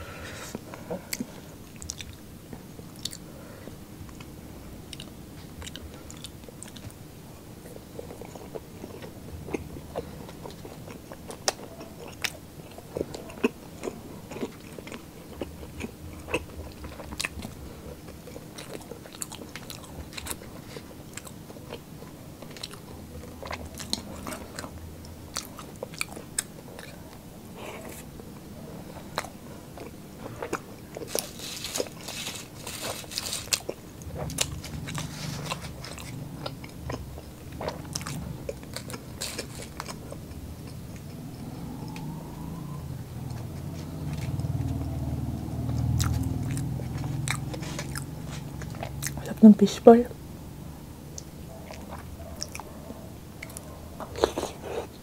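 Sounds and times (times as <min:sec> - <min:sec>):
chewing crunchy fried food: 0:00.4 - 0:42.4, 0:43.2 - 0:49.6, 0:51.1 - 0:55.0.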